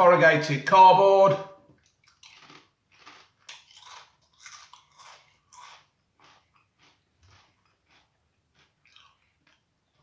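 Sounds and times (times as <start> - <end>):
crisps being chewed: 1.7 - 10.0.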